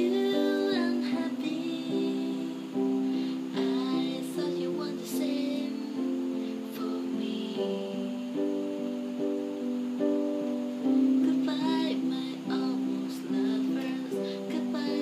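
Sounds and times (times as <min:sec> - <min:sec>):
electronic keyboard piano piece: 0:00.0 - 0:15.0.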